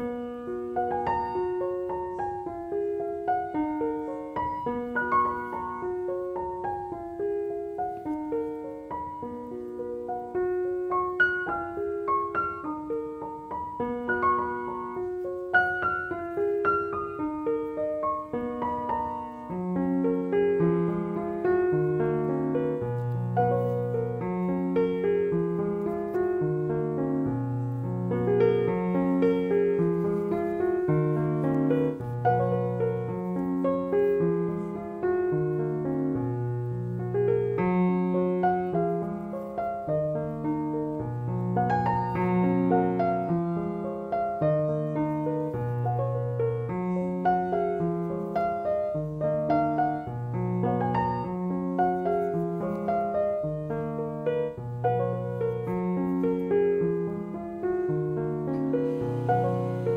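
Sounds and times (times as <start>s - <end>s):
gentle solo piano: 0.0s - 59.9s.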